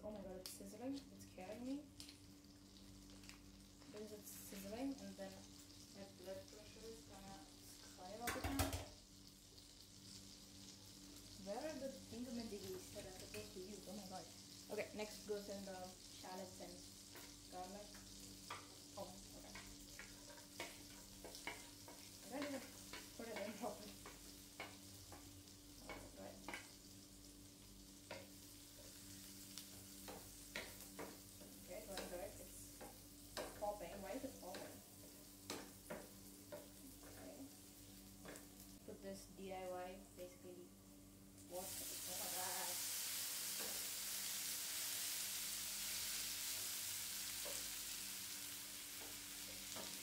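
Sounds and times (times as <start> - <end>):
shallots and garlic sizzling in pan: 0.0 - 50.0.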